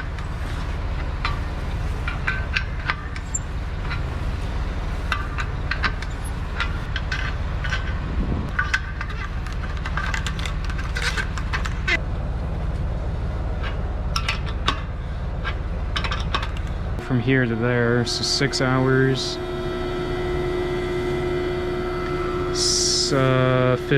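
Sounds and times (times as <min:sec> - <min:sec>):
engine running: 0:00.0 - 0:23.9.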